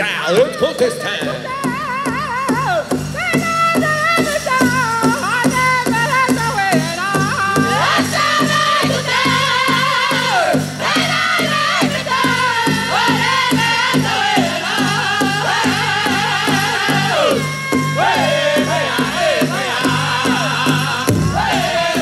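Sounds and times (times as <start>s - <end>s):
high voices singing in unison: 0.0s - 22.0s
big drum beating: 0.3s - 22.0s.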